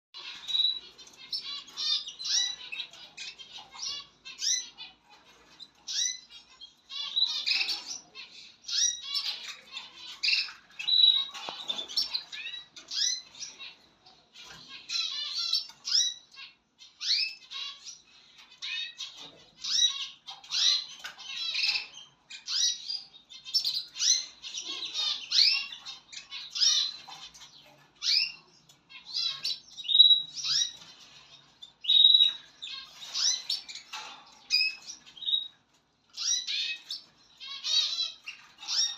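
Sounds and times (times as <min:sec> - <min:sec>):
canaries chirping and trilling: 0:00.2 - 0:38.9.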